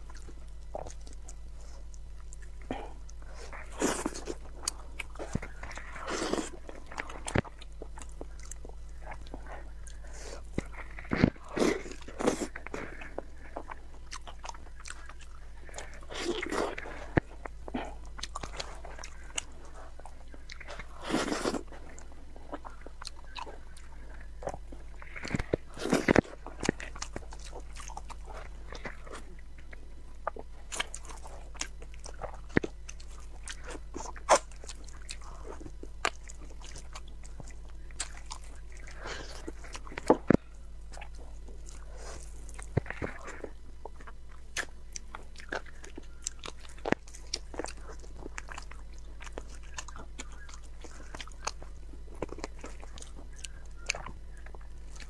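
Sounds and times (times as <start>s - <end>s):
steady low hum: 0.0s - 55.0s
wet biting and chewing: 0.0s - 55.0s.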